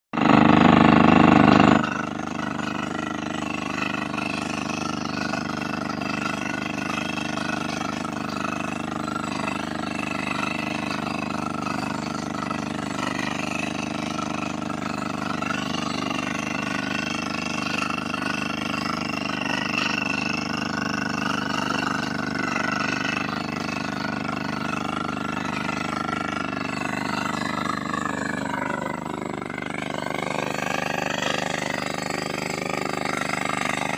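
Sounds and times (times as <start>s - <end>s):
drilling machine running: 0.1s - 33.9s.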